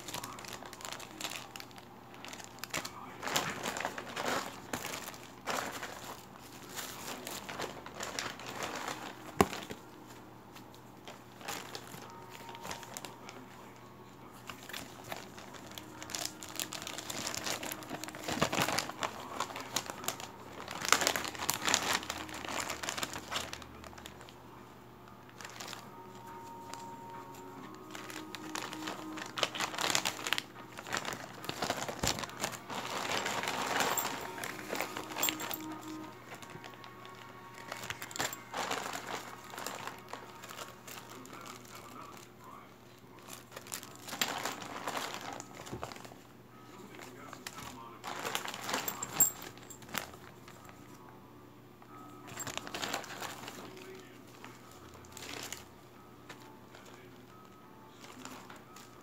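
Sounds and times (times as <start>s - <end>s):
plastic bags crinkling: 0.0s - 24.4s, 25.1s - 50.9s, 51.9s - 59.0s.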